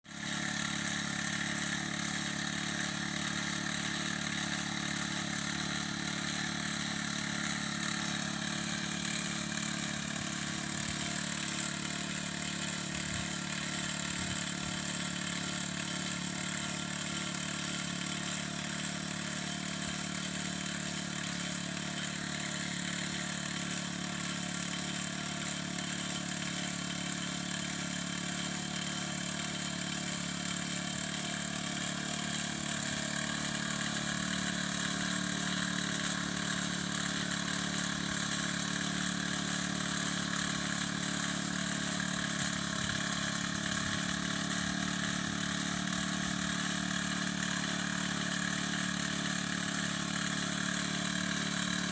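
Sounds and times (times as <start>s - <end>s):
small petrol engine running: 0.0s - 51.9s.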